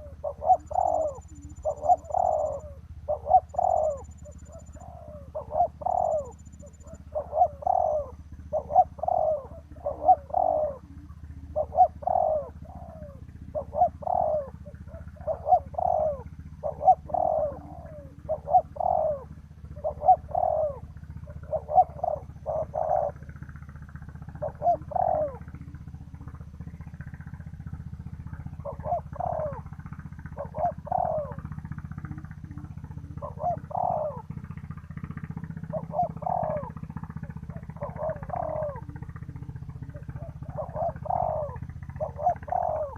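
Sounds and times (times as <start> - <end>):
dove cooing: 0.0 - 42.9
steady low hum: 0.0 - 42.9.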